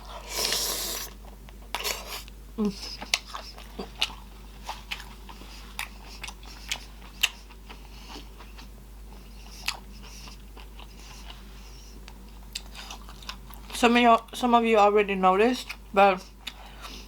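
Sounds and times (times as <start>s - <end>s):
person chewing food: 0.0s - 13.7s, 15.7s - 17.0s.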